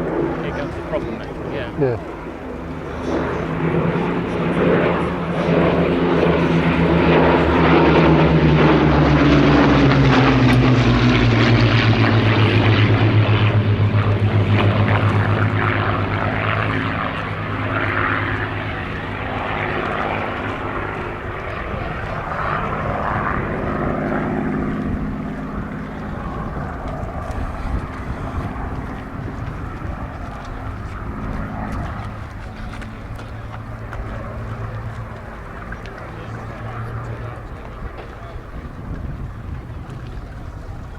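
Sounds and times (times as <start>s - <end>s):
propeller plane engine flying past: 0.0s - 40.9s.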